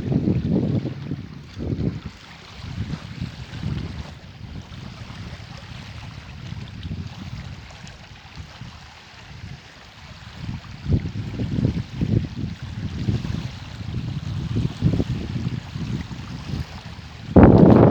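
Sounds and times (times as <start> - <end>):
strong wind buffeting microphone: 0.0 - 17.9.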